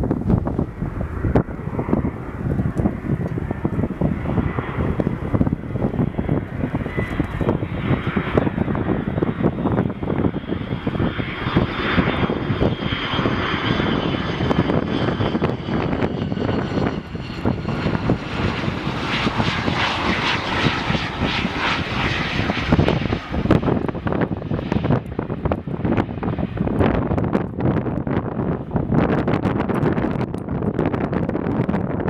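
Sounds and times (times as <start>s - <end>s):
jet engines whining: 0.0s - 32.0s.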